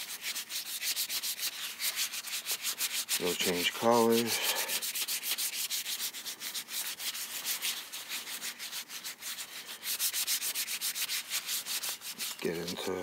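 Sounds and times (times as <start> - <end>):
hands rubbing polish on metal: 0.0 - 13.0.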